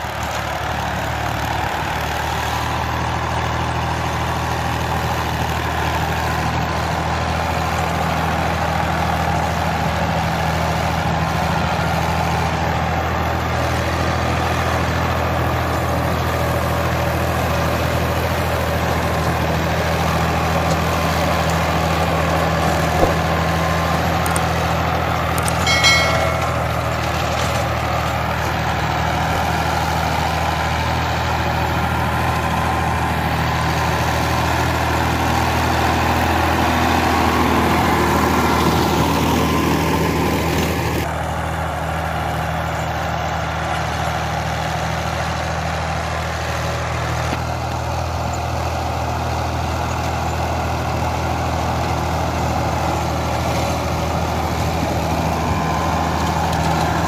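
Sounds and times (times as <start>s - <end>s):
rotary tiller through dry soil: 0.0s - 57.0s
tractor diesel engine running: 0.0s - 57.0s.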